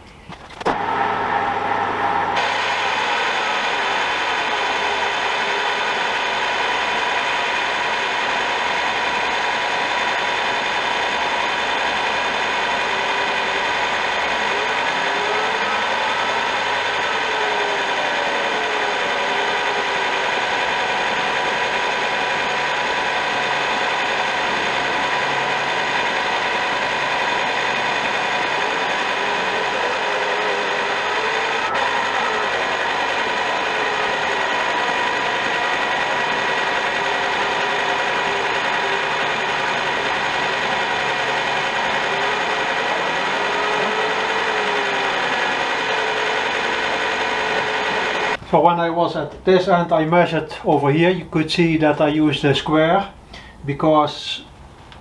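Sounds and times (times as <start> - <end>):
milling machine drone: 0.1 - 48.4.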